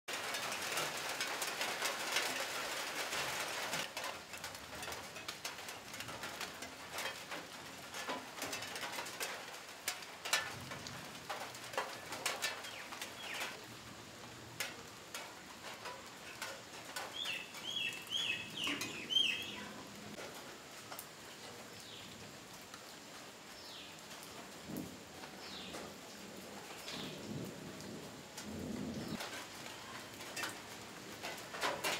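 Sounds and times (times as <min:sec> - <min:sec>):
rain dripping off leaves: 0:00.1 - 0:31.9.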